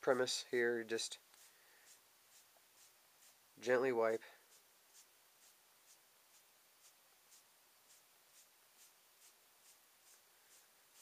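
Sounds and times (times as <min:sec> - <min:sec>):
cloth rubbing on metal: 0:01.3 - 0:11.0.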